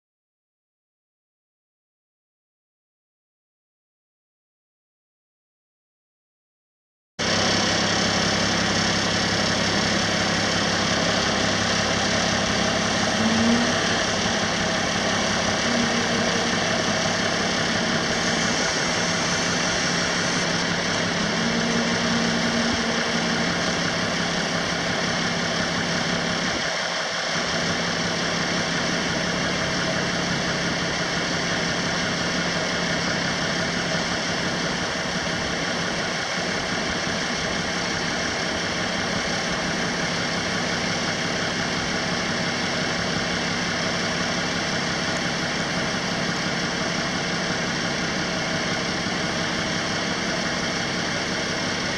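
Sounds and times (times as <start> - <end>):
diesel truck engine idling: 7.2 - 51.9.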